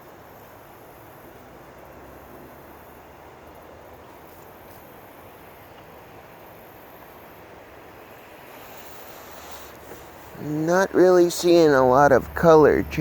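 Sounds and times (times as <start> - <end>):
small vehicle rolling and motor: 0.0 - 13.0.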